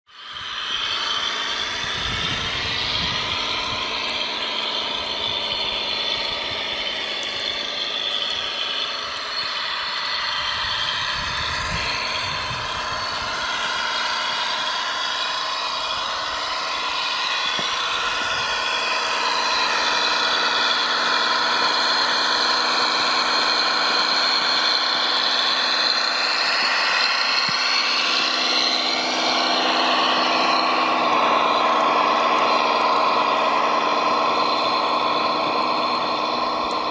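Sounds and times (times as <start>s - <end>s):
electric motors whining: 0.1s - 36.9s.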